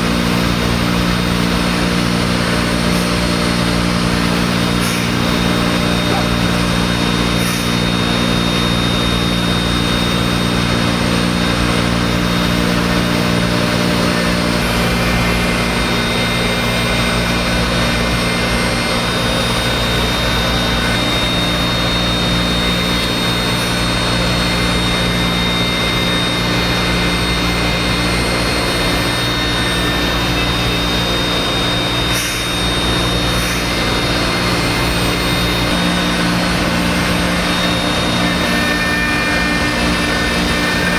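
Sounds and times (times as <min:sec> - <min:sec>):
low machine hum: 0:00.0 - 0:40.9
spindle high whine: 0:00.0 - 0:40.9.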